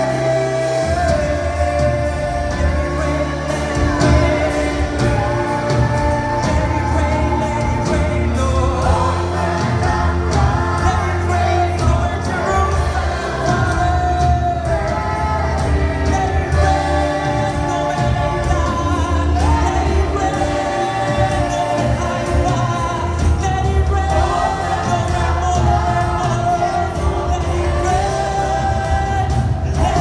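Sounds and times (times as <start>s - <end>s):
backing vocalists: 0.0s - 30.0s
band with drums: 0.0s - 30.0s
bass: 0.0s - 30.0s
man singing lead: 0.0s - 30.0s.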